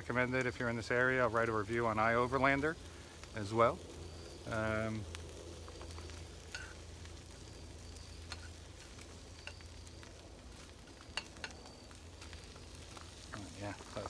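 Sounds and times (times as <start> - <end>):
onions sizzling in a frying pan: 0.0 - 14.0.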